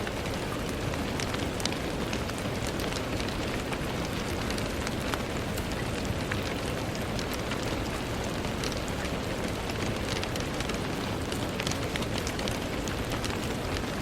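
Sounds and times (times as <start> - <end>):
rain on a window: 0.0 - 14.0.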